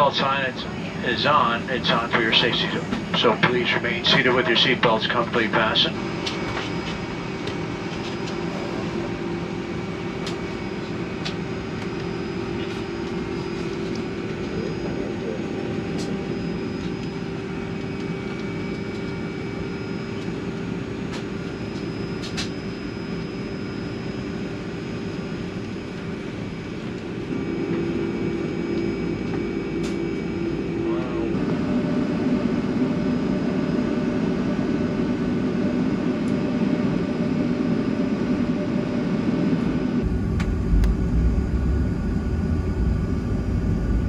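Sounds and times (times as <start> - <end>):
aircraft cabin hum: 0.0 - 44.0.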